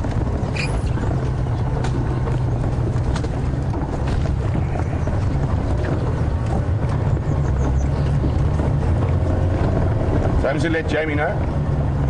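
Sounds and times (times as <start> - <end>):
clicks and knocks from rough ground: 0.0 - 11.7
vehicle engine running: 0.0 - 12.0.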